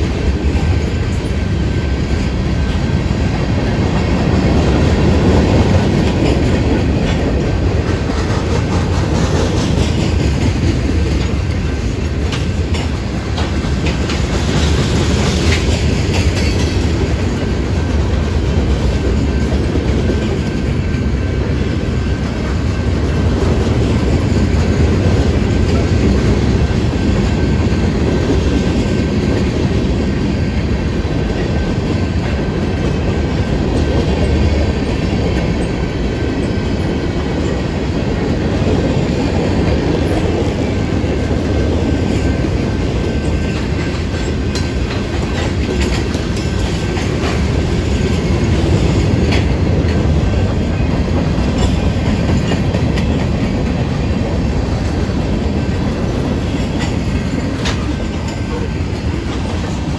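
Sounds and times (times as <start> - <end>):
freight train wheels rumbling: 0.0 - 59.9
wheels clickety-clack: 0.0 - 59.9.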